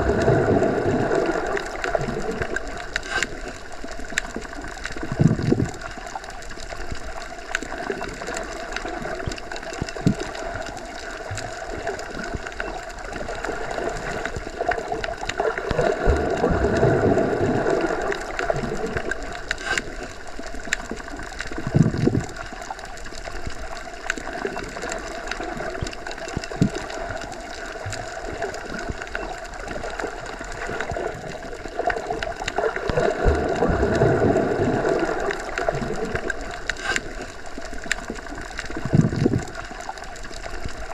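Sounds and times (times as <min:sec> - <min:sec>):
muffled underwater rush: 0:00.0 - 0:40.9.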